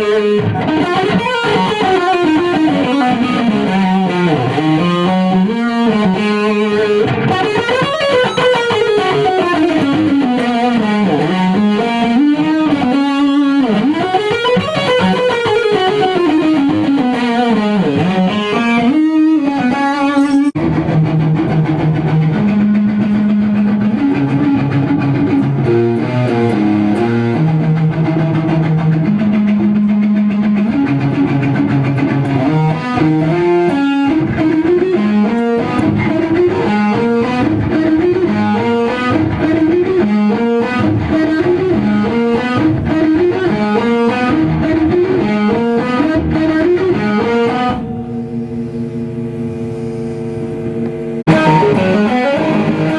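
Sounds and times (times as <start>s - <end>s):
distorted electric guitar: 0.0s - 52.9s.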